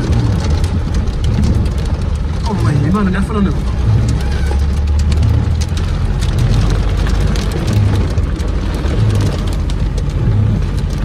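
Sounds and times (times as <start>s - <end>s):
heavy rain on car windshield: 0.0s - 11.0s
low rumble: 0.0s - 11.0s.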